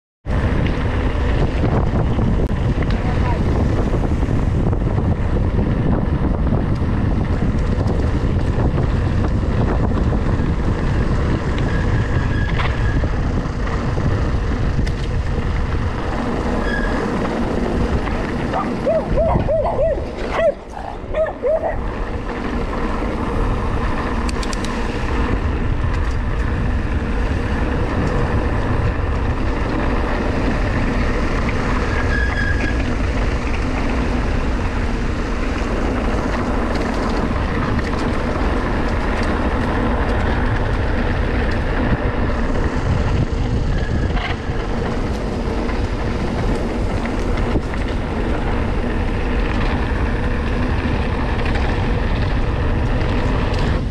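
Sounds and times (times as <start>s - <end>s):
bike tyres rattling over cobblestones: 0.3s - 53.9s.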